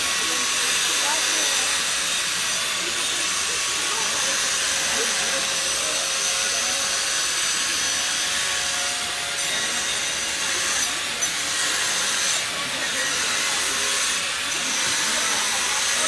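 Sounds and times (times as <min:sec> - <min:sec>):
power tool grinding ice: 0:00.0 - 0:16.0.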